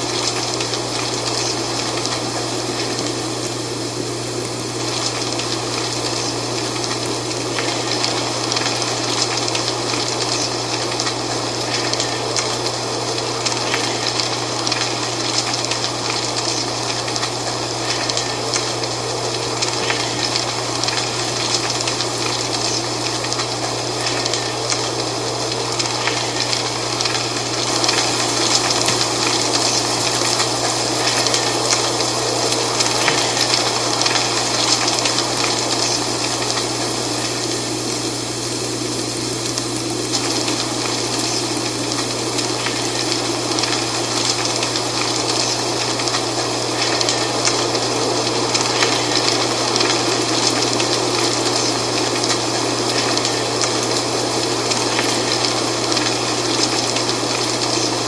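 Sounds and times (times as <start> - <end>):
dry leaves rustling in wind: 0.0 - 58.0.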